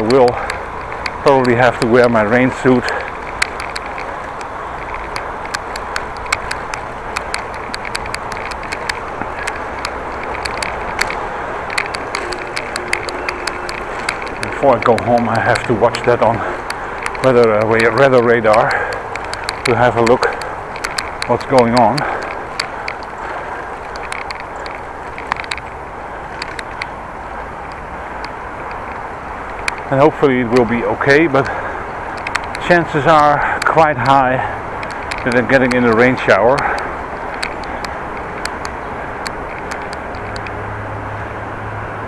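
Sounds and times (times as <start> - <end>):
bicycle ticking and clicking: 0.0 - 41.4
bicycle tyres rolling: 0.0 - 42.0.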